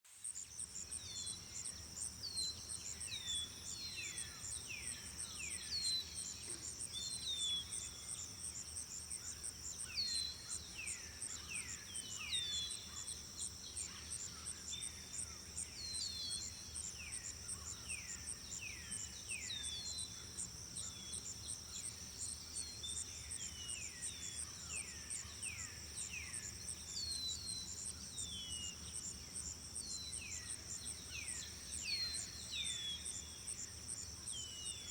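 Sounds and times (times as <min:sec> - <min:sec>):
insects trilling: 0:00.3 - 0:34.9.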